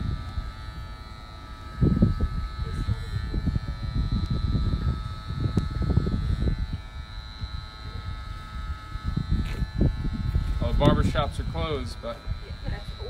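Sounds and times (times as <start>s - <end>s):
electric hair clippers buzzing: 0.0s - 13.0s
uneven low rumble: 0.0s - 13.0s.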